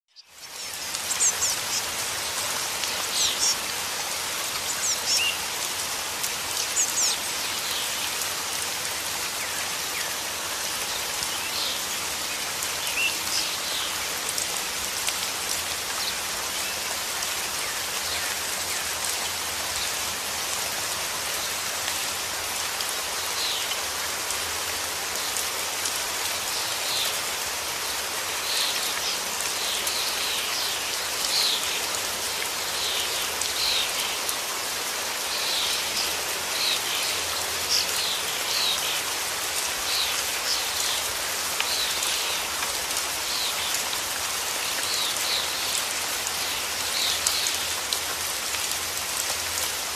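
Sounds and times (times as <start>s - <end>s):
steady rain falling: 0.1s - 49.9s.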